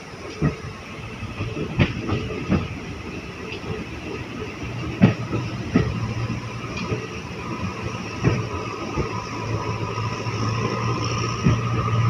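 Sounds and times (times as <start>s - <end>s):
train wheel clacks over rail joints: 0.0s - 12.0s.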